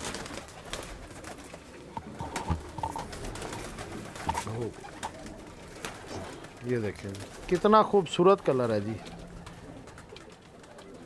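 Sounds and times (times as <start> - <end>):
pigeons cooing: 0.0 - 11.0
rustles and clicks of pigeon handling: 0.0 - 11.0.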